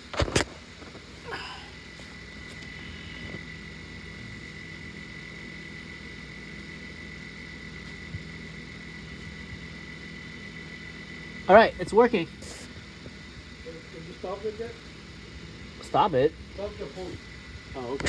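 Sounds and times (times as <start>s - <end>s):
refrigerator compressor humming: 0.0s - 18.0s
thin high whine: 0.0s - 18.0s.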